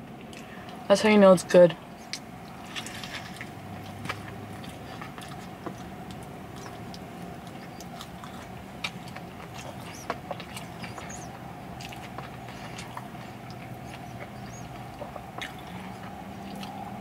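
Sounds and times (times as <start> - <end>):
steady low hum: 0.0 - 17.0
wet chewing clicks and smacks: 1.9 - 17.0.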